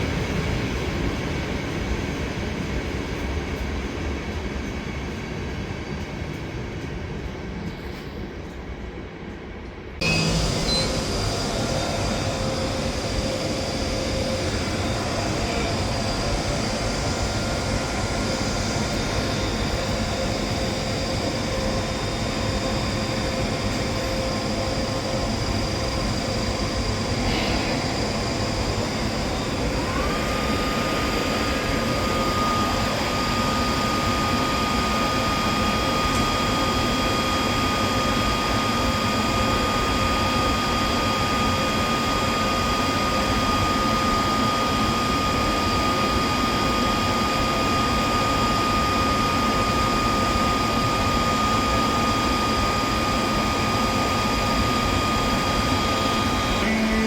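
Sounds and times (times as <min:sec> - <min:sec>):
electric locomotive whine: 0:00.0 - 0:57.0
rail noise: 0:00.0 - 0:57.0
electric train running: 0:10.0 - 0:57.0.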